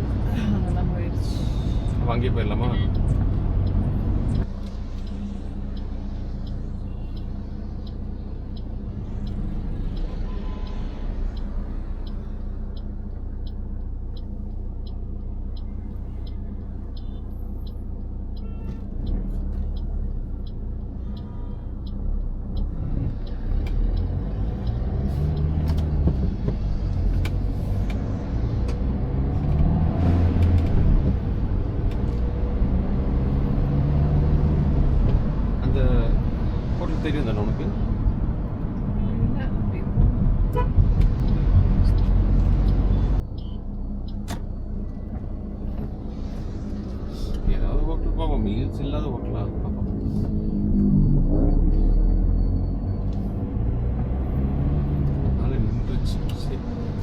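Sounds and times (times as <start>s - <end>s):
car engine and road rumble: 0.0s - 57.0s
turn signal ticking: 0.0s - 57.0s.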